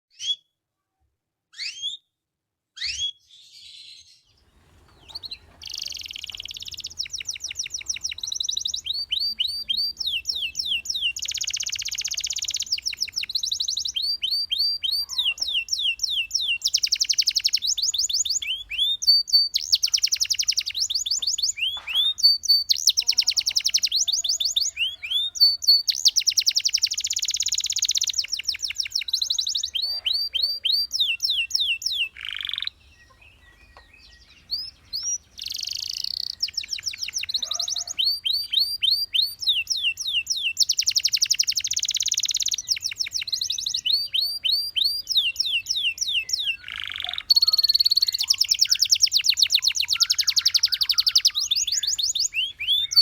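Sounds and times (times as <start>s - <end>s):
canary singing: 0.1s - 0.5s, 1.5s - 2.1s, 2.8s - 53.0s.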